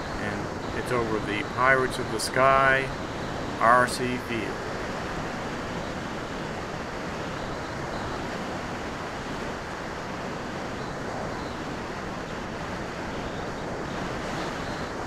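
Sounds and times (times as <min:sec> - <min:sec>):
wind rushing over camera: 0:00.0 - 0:15.0.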